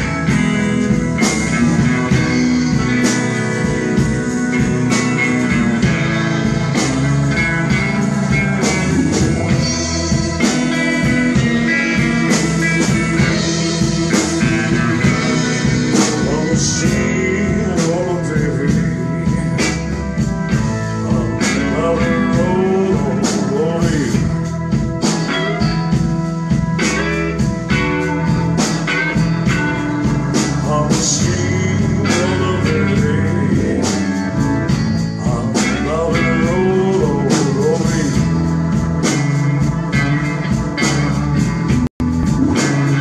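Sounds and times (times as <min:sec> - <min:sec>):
drum kit steady beat: 0:00.0 - 0:43.0
electric and acoustic guitars: 0:00.0 - 0:43.0
lead guitar bending notes: 0:00.0 - 0:43.0.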